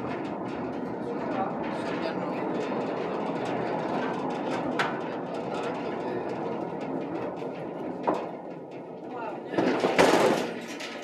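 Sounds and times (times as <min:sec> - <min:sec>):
hoist cage rolling on rails: 0:00.0 - 0:11.0.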